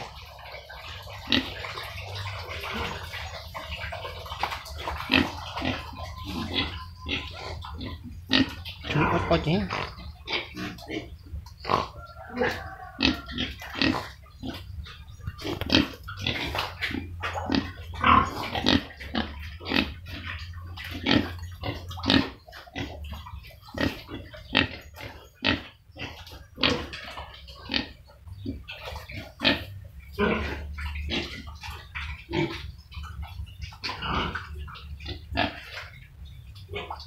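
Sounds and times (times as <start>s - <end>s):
pigs grunting: 0.0s - 37.0s.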